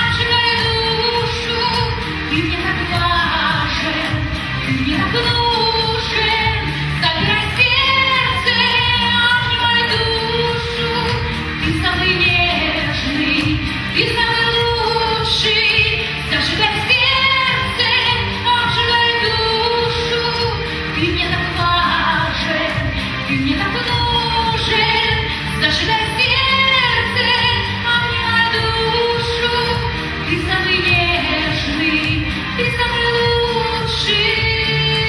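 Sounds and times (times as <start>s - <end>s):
backing track: 0.0s - 35.0s
woman singing pop song: 0.0s - 35.0s.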